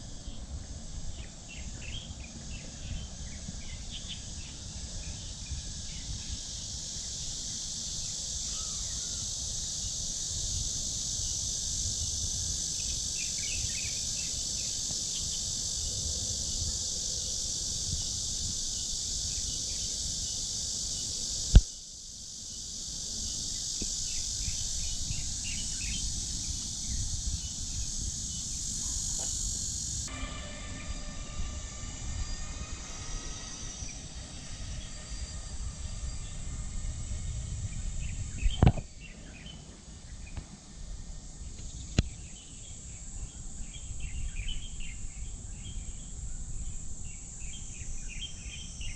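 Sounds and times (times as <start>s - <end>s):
steady humming tones: 0.0s - 42.5s
insects droning: 0.0s - 48.9s.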